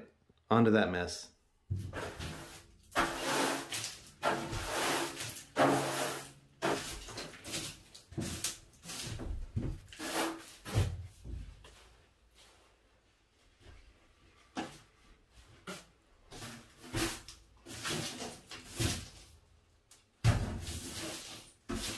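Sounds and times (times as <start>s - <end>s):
broom sweeping floor: 1.8s - 13.9s, 14.6s - 19.4s, 20.3s - 21.9s.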